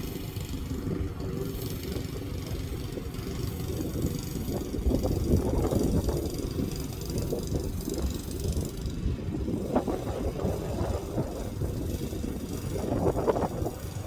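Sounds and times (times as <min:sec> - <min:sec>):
lawn mower running: 0:00.0 - 0:14.0.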